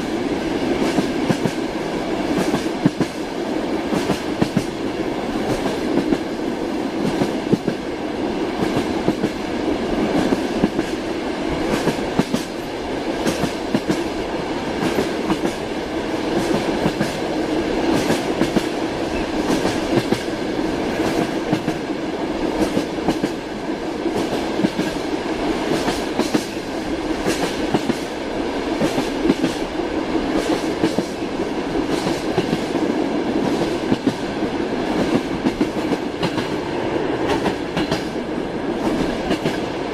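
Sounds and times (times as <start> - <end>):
train wheels clattering over rails: 0.0 - 39.8.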